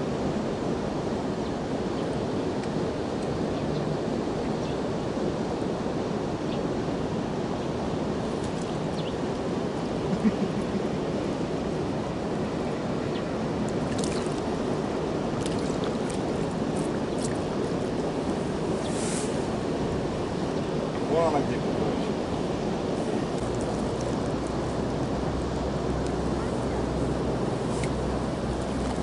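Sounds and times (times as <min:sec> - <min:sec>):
flowing river water: 0:00.0 - 0:29.0.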